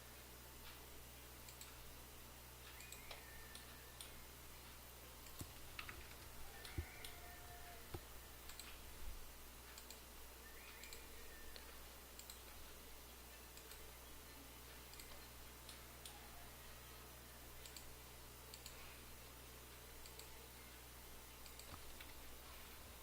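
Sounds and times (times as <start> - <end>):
steady low hum: 0.0 - 23.0
computer mouse clicking: 0.6 - 1.9, 2.6 - 9.0, 9.6 - 12.8, 13.5 - 13.9, 14.6 - 16.8, 17.6 - 23.0.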